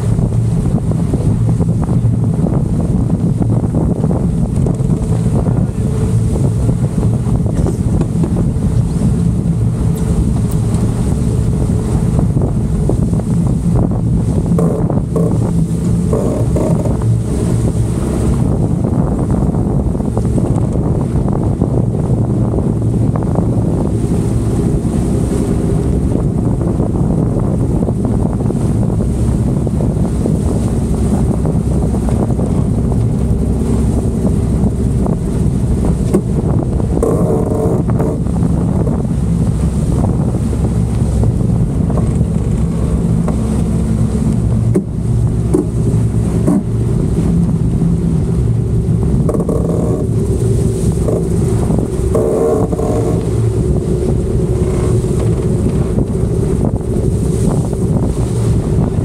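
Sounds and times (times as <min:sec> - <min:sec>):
hull and water noise: 0:00.0 - 0:59.0
wind buffeting microphone: 0:00.0 - 0:59.0.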